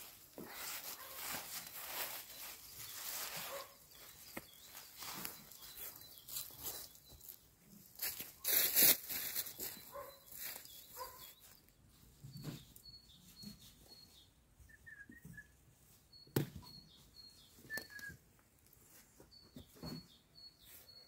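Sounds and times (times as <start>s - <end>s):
birds chirping: 2.0s - 21.0s.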